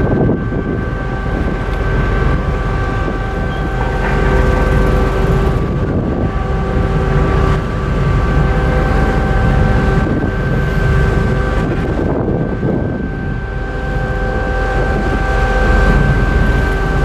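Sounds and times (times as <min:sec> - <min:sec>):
ship machinery rumbling: 0:00.0 - 0:17.0
wind buffeting microphone: 0:00.0 - 0:17.0.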